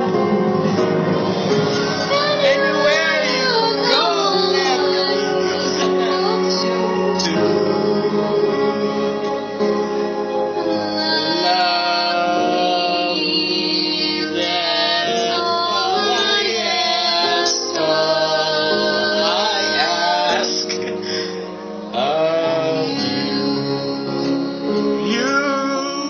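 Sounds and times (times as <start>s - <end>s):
sung ballad with instruments: 0.0s - 26.0s.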